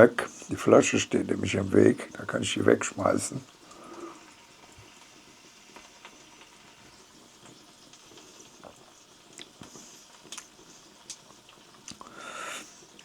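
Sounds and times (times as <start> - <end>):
meat sizzling on a grill: 0.0 - 13.0
small crackles and pops: 0.0 - 13.0.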